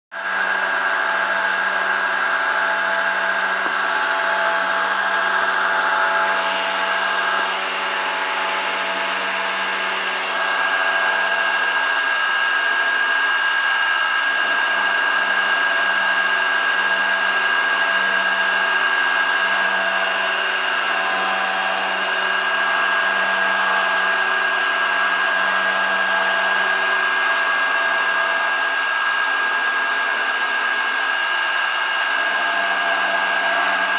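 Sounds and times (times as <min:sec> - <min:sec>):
milling machine whining: 0:00.2 - 0:33.9.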